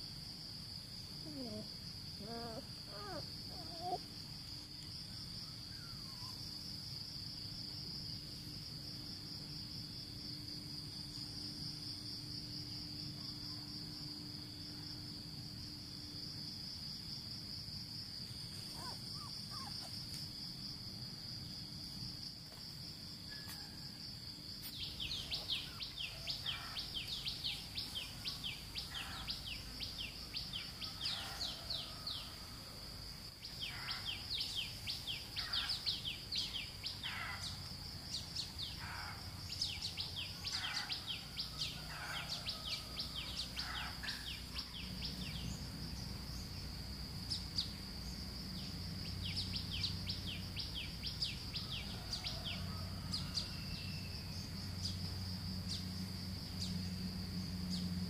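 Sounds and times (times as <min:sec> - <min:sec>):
high-pitched insect trill: 0:00.0 - 0:58.0.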